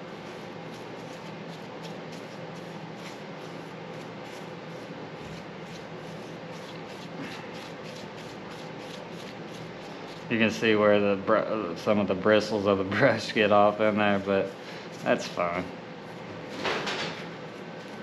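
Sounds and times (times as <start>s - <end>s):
paintbrush brushing and scraping: 0.0s - 10.8s, 11.8s - 16.4s, 17.1s - 18.0s
low background hum: 0.0s - 18.0s.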